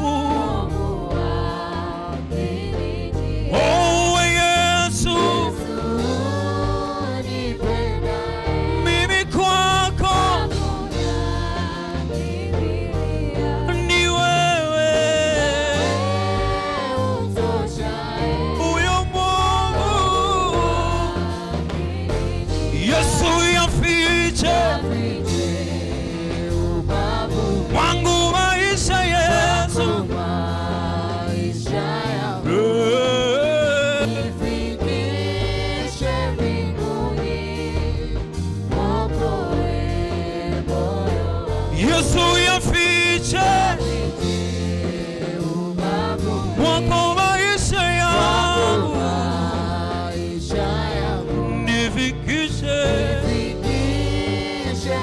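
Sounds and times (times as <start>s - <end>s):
bass accompaniment: 0.0s - 55.0s
vocal group singing a hymn: 0.0s - 55.0s.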